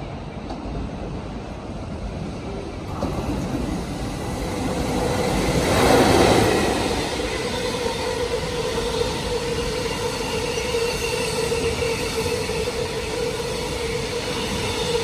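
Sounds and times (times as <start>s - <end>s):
steady train whine: 0.0s - 15.0s
train wheel and track rumble: 0.0s - 15.0s.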